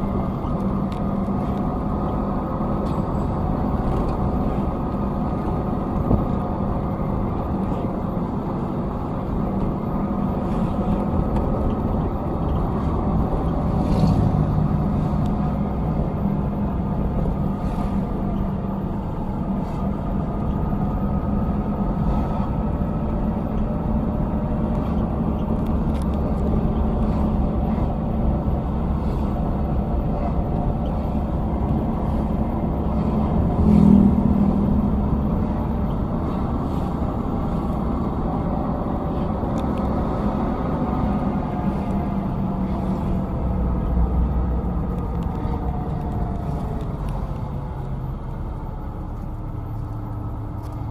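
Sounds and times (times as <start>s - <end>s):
heavy vehicle engines rumbling: 0.0s - 50.9s.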